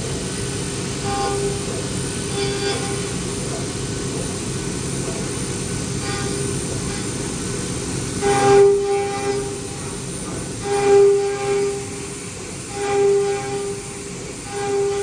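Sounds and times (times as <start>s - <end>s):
milling machine cutting: 0.1s - 15.0s.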